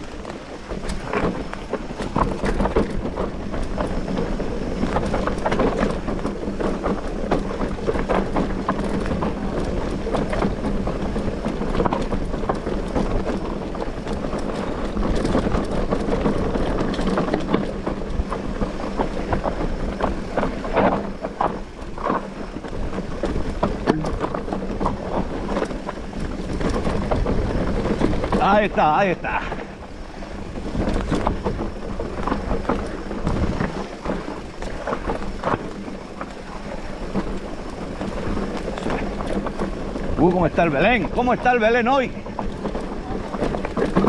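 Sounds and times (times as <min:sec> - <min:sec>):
bike rattling over bumps: 0:00.0 - 0:44.0
bike tyres on gravel: 0:00.0 - 0:44.0.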